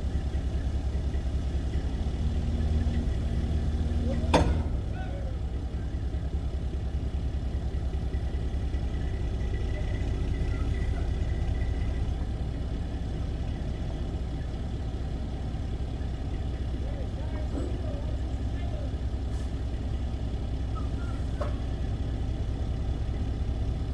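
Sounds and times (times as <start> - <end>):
large engine idling: 0.0 - 23.9.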